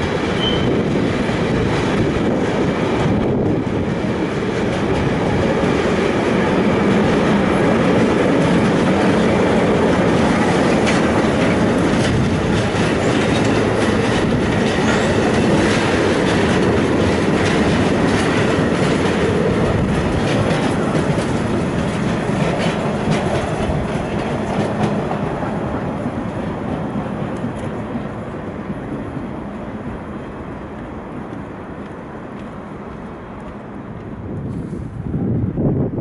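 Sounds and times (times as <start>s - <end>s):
train wheels clattering: 0.0s - 29.3s.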